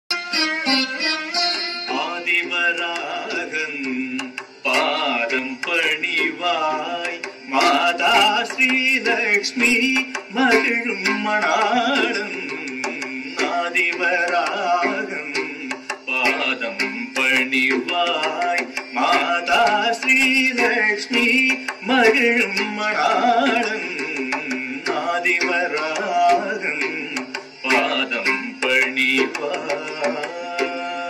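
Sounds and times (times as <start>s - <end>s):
drum strokes: 0.2s - 31.0s.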